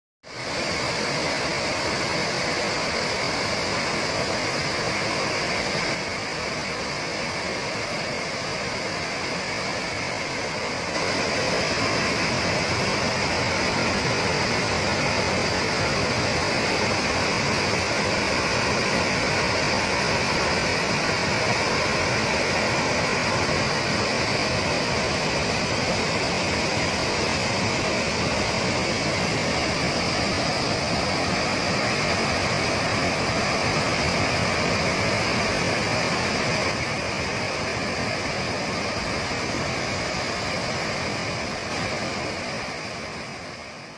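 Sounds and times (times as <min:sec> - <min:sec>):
waterfall rushing: 0:00.3 - 0:43.9.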